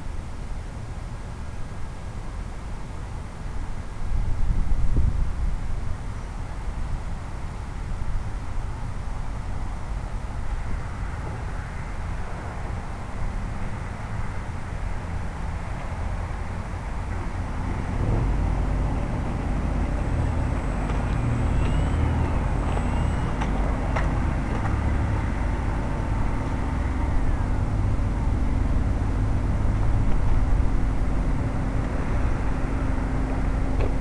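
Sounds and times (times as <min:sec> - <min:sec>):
model airplane taxiing rumble: 0:00.6 - 0:34.0.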